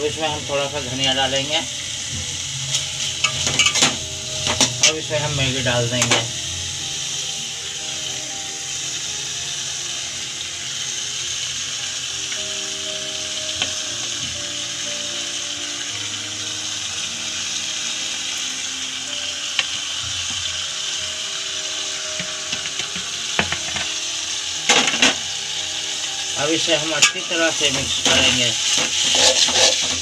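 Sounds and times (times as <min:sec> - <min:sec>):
food sizzling in a pot: 0:00.0 - 0:30.0.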